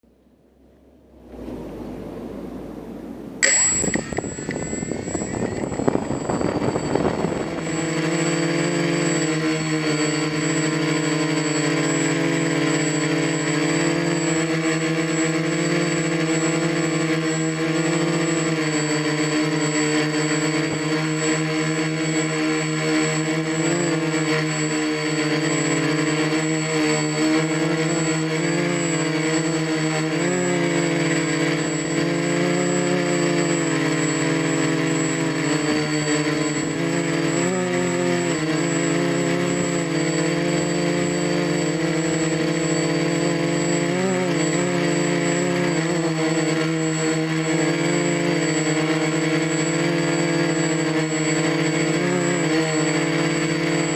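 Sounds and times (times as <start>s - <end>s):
thin high whine: 0.9s - 53.9s
quadcopter propellers buzzing: 1.2s - 53.9s.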